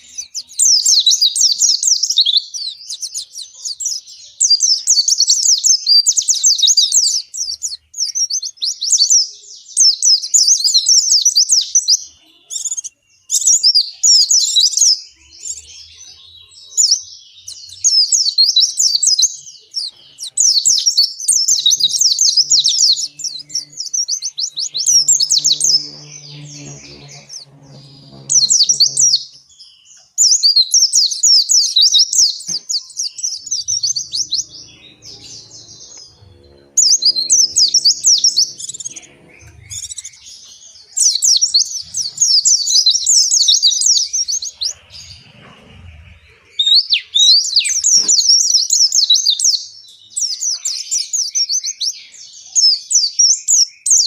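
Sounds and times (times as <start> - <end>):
bird warbling song: 0.0 - 54.0.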